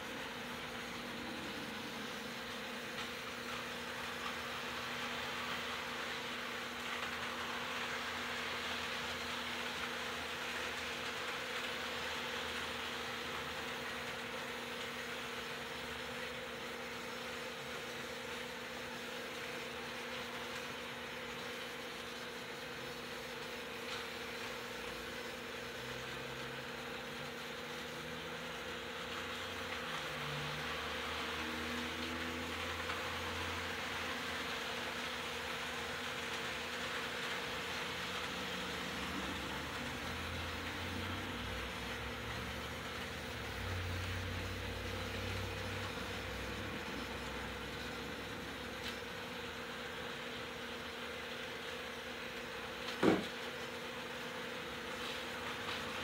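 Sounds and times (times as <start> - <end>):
model trains whirring on rails: 0.0 - 56.0
steady hum: 0.0 - 56.0.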